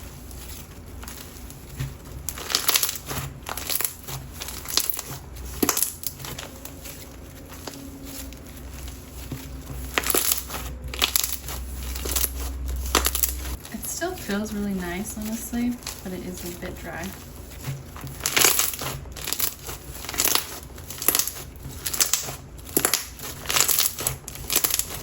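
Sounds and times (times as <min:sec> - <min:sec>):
perlite crunching and crackling: 0:00.0 - 0:25.0.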